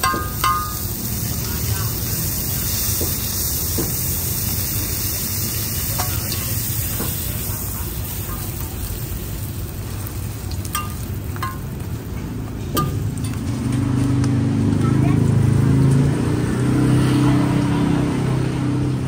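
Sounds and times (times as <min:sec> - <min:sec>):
dough sizzling on a griddle: 0:00.0 - 0:19.0.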